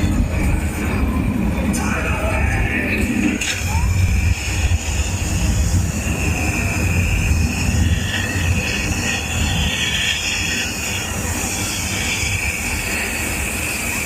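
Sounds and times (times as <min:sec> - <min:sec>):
thin high whine: 0:00.0 - 0:14.0
tram running with low rumble: 0:00.0 - 0:14.0.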